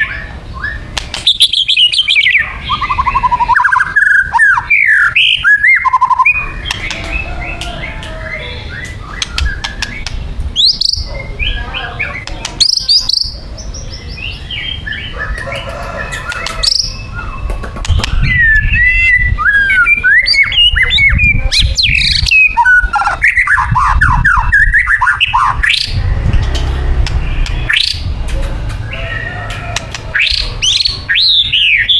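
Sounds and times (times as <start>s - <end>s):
bird singing: 0.0s - 31.9s.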